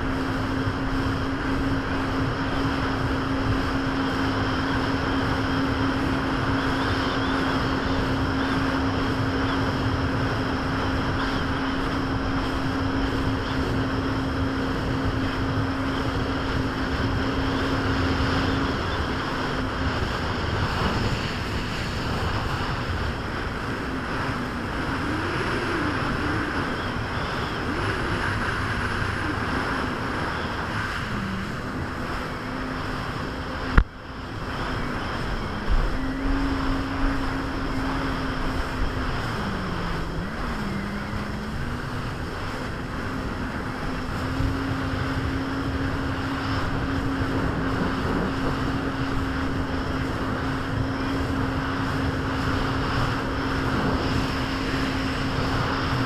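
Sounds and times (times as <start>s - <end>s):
jet ski engine running: 0.0s - 56.0s
water rushing: 0.0s - 56.0s
wind noise: 0.0s - 56.0s.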